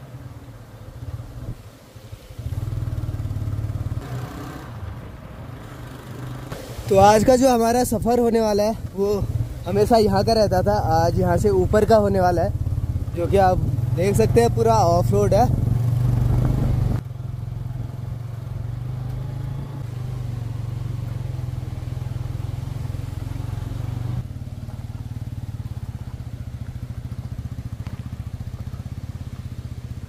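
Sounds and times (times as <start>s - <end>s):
motorcycle engine running: 2.4s - 4.9s, 8.2s - 30.0s.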